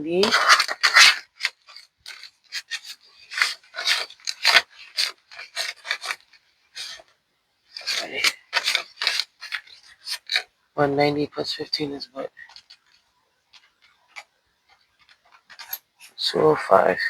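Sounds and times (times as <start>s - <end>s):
banknotes rustling: 0.0s - 16.2s.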